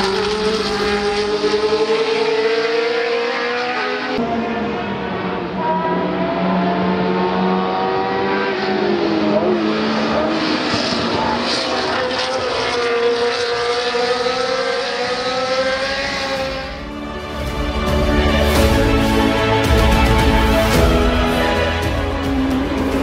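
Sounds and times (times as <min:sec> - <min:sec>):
racing car engines: 0:00.0 - 0:23.0.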